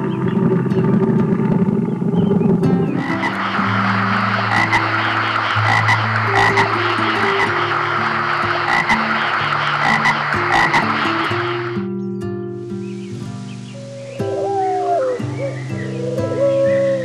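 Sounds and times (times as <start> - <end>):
frogs croaking: 0.0 - 11.9, 12.8 - 17.0.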